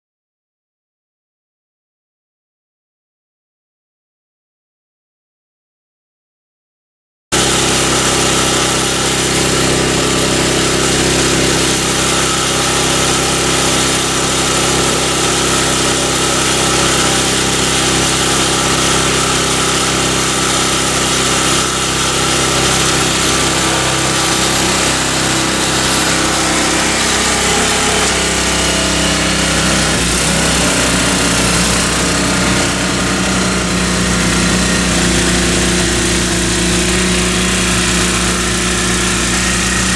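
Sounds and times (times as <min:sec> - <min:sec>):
snowblower engine running: 0:07.3 - 0:39.9.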